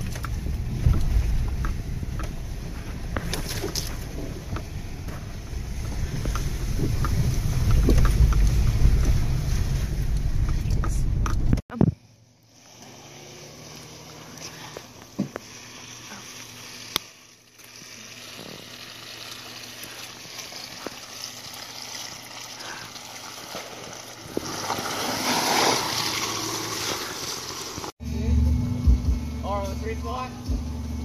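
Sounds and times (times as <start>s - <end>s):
tyres rolling through mud: 0.0s - 11.6s, 12.5s - 28.0s
car engine running low: 0.0s - 31.0s.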